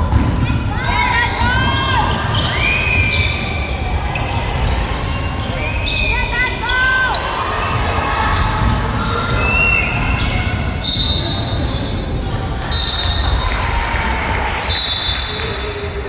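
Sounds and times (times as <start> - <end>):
crowd chatter: 0.0 - 16.0.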